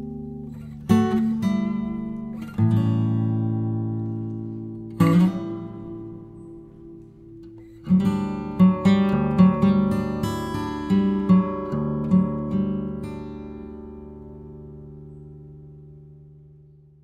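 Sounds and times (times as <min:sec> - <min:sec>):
acoustic guitar strumming: 0:00.0 - 0:16.9.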